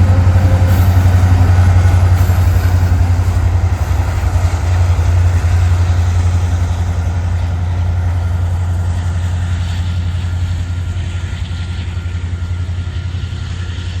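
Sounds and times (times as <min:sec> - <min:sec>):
freight train rumbling by: 0:00.0 - 0:14.0.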